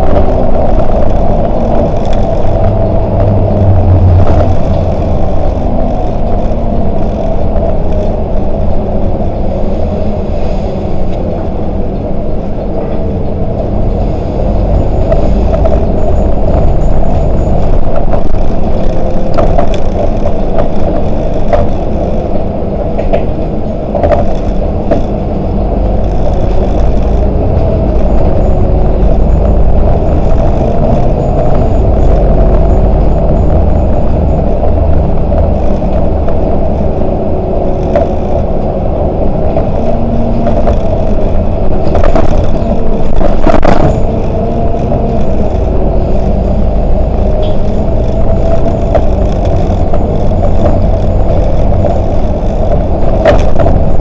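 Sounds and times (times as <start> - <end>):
bus body rattling: 0.0 - 54.0
bus engine and road rumble: 0.0 - 54.0.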